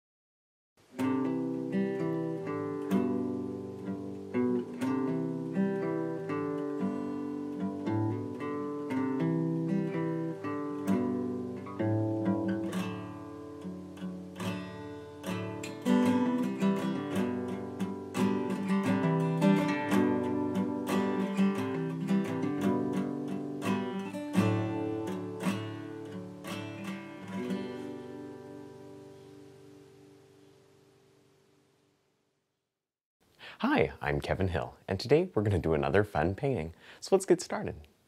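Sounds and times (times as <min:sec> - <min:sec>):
acoustic guitar music: 0:00.8 - 0:31.8.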